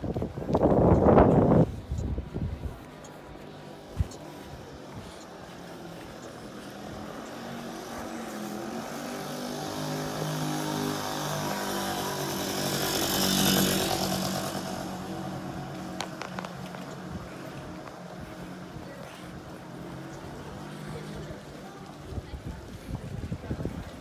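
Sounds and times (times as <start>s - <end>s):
motor vehicle passing by: 0.1s - 24.0s.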